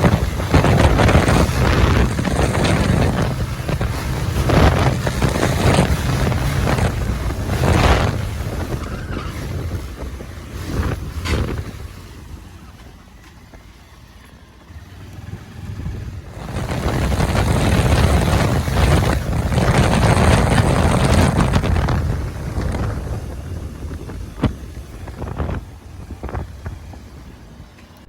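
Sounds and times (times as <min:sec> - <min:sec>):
wind rushing over microphone: 0:00.0 - 0:14.0, 0:14.7 - 0:28.0
motorcycle vehicle noise: 0:00.0 - 0:28.0.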